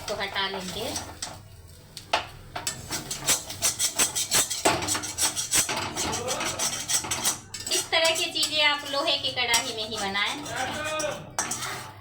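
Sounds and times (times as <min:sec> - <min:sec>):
spatula scraping iron pan: 0:00.0 - 0:01.4, 0:02.6 - 0:12.0.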